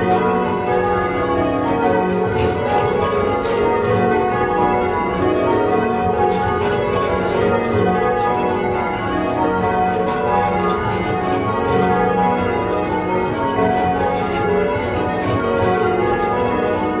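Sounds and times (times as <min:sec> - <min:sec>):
church bells change-ringing: 0:00.0 - 0:17.0.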